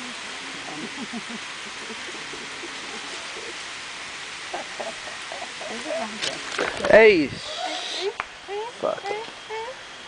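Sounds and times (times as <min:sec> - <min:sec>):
high outdoor hiss: 0:00.0 - 0:10.0.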